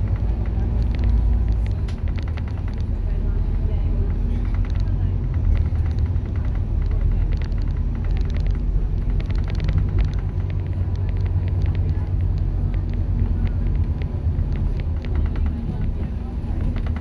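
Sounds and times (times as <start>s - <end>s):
bus diesel engine drone: 0.0s - 17.0s
light clicks and rattles: 0.0s - 17.0s.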